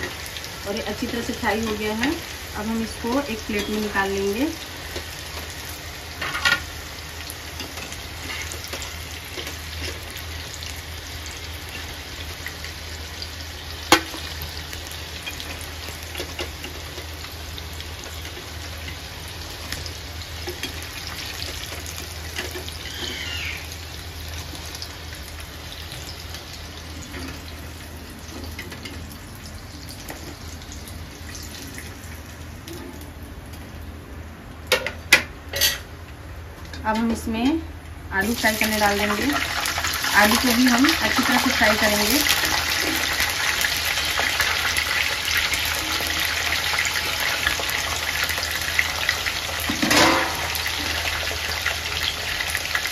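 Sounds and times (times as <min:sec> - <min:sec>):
frying in hot oil: 0:00.0 - 0:52.9.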